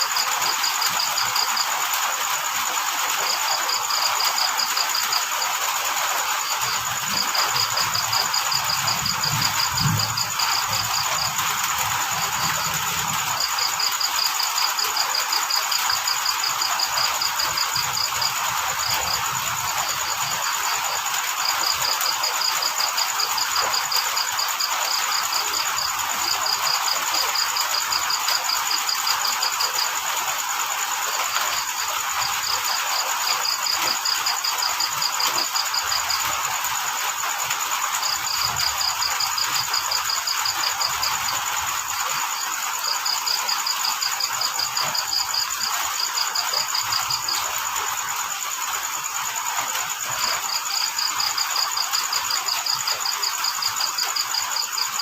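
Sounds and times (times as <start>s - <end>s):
field cricket chirping: 0.0s - 55.0s
high insect drone: 0.0s - 55.0s
rain falling: 0.0s - 55.0s.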